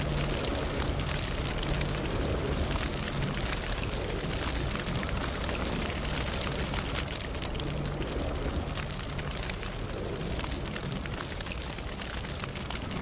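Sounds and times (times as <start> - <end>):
campfire crackling and popping: 0.0 - 13.0
low rush of flame: 0.0 - 13.0.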